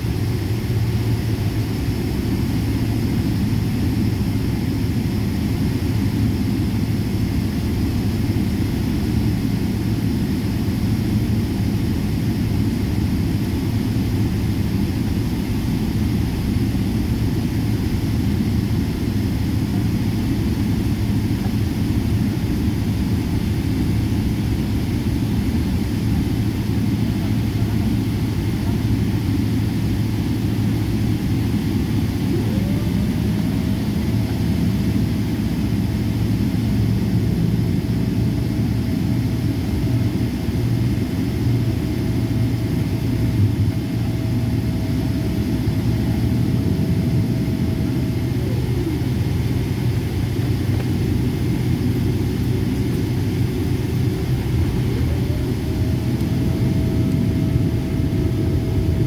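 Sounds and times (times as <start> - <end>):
jet cabin low rumble: 0.0 - 59.0
thin engine whine: 0.0 - 59.0.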